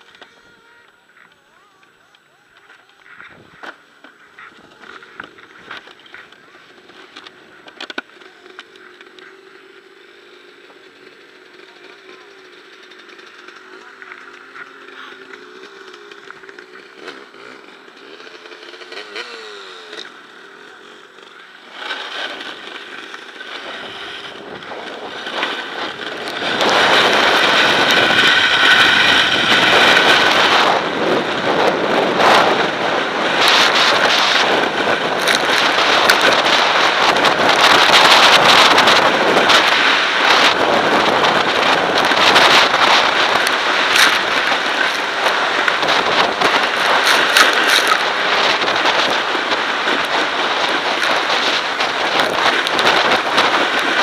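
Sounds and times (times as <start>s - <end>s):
dirt bike engine running: 0.0s - 54.0s
sled scraping over ice: 10.6s - 54.0s.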